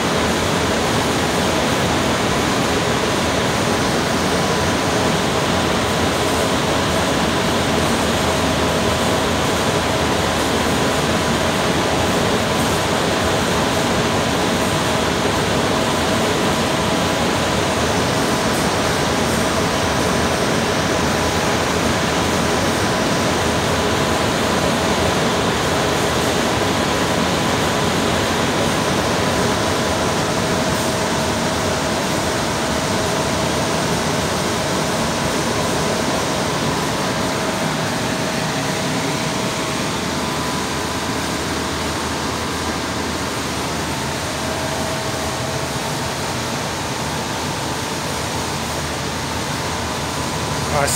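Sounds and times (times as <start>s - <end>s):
air conditioner fan rushing air: 0.0s - 50.9s.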